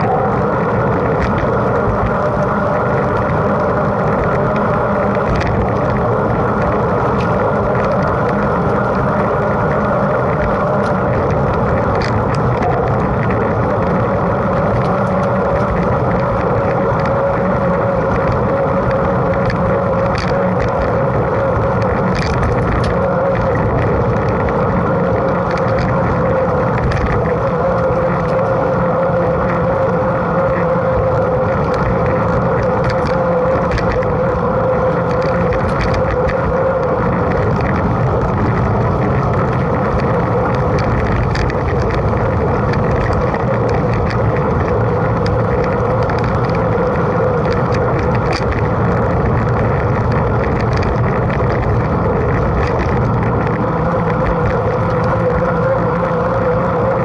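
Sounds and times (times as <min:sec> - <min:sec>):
bike tyre noise: 0:00.0 - 0:57.0
faint hum: 0:00.0 - 0:57.0
small ticks and clicks: 0:00.0 - 0:57.0.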